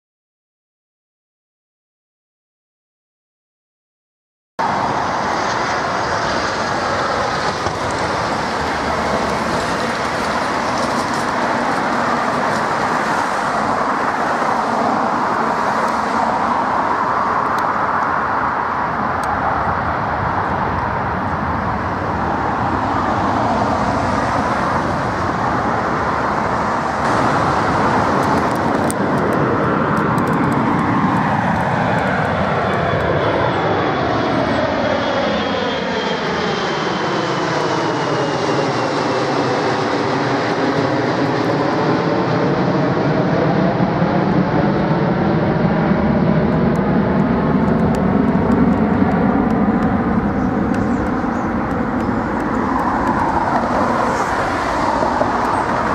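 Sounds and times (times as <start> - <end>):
jet engines roaring: 4.6 - 55.9.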